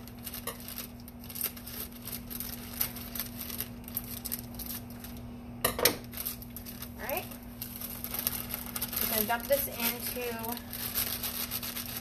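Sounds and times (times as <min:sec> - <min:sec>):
plastic bag crinkling: 0:00.0 - 0:05.3, 0:06.0 - 0:12.0
steady low hum: 0:00.0 - 0:12.0.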